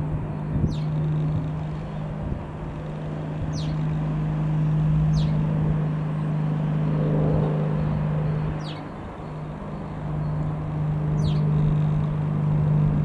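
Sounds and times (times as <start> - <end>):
propeller aircraft droning: 0.0 - 13.0.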